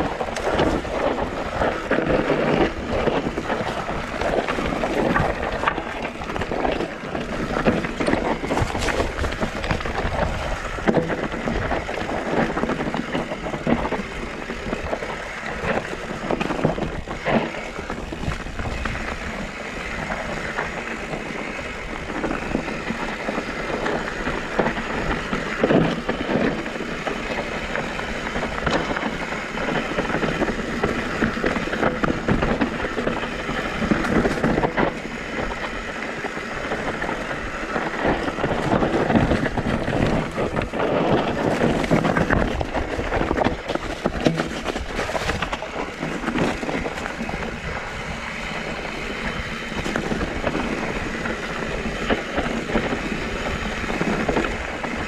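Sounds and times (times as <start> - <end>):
bike chain and frame rattling: 0.0 - 55.0
wind noise on microphone: 0.0 - 55.0.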